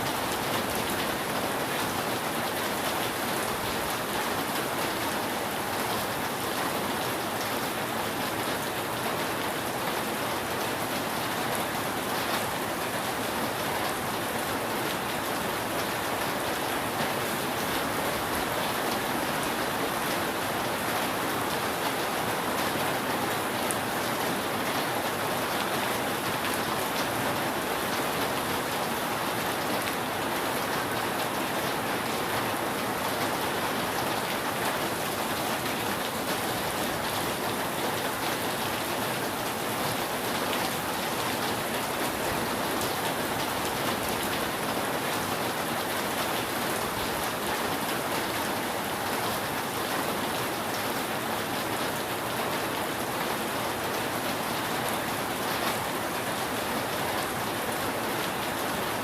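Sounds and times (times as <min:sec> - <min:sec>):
rain falling on roof: 0:00.0 - 0:59.0.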